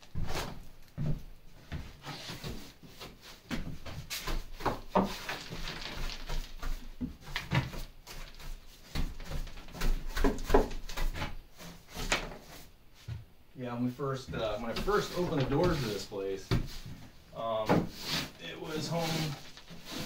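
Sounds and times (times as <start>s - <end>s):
broom sweeping floor: 0.0s - 13.3s, 14.1s - 20.0s.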